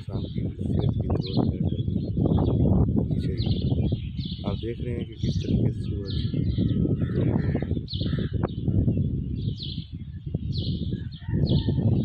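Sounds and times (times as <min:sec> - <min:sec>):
constant low rumble: 0:00.0 - 0:11.0
birds chirping: 0:00.0 - 0:12.0.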